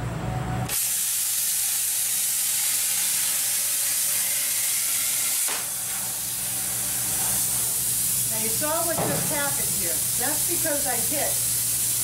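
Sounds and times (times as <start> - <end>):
plasma cutter hissing: 0.7 - 12.0.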